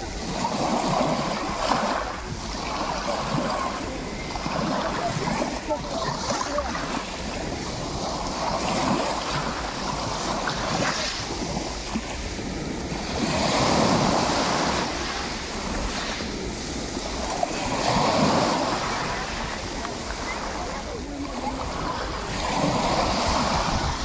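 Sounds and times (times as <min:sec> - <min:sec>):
waves washing over pebbles: 0:00.0 - 0:24.0
wind rumble on microphone: 0:00.0 - 0:24.0.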